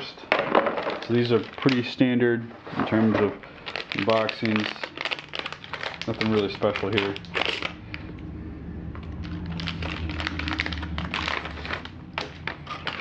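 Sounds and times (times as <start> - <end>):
plastic bag crinkling: 0.4 - 8.3, 9.0 - 13.0
steady low hum: 2.2 - 13.0.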